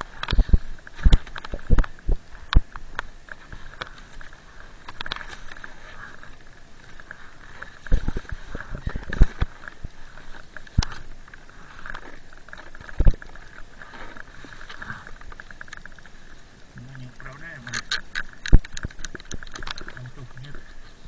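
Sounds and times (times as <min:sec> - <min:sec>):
snow crunching and scraping: 0:00.0 - 0:17.7.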